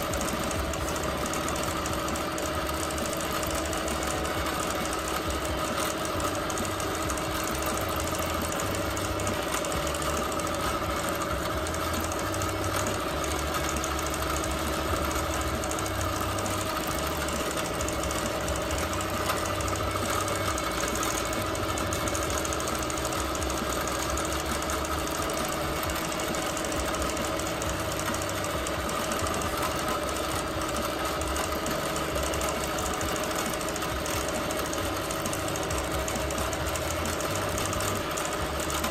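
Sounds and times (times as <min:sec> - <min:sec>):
quilting machine humming: 0:00.0 - 0:38.9.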